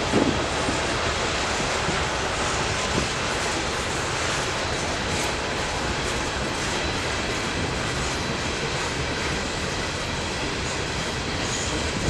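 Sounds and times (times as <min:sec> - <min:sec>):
train rolling past: 0:00.0 - 0:12.0.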